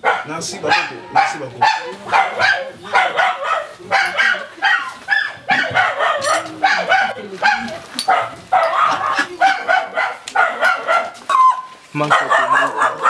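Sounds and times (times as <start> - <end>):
ducks calling: 0.0 - 13.0.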